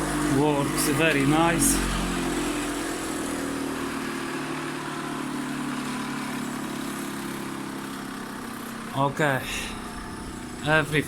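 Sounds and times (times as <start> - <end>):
bench grinder motor hum: 0.0 - 11.0.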